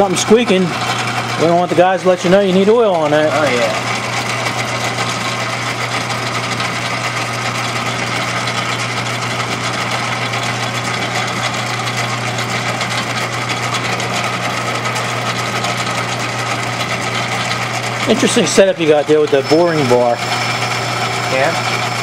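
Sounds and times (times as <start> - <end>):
lathe motor humming: 0.0 - 22.0.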